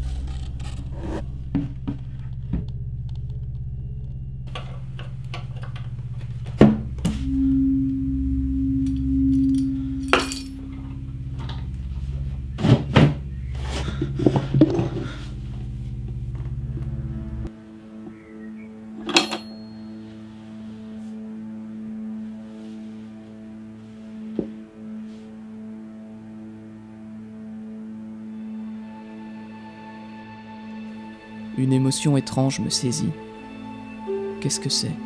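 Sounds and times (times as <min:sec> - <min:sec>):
low film score drone: 0:00.0 - 0:35.0.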